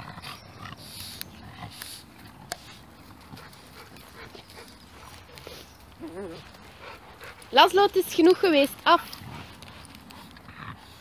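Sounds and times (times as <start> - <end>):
dogs scuffling: 0.8 - 11.0.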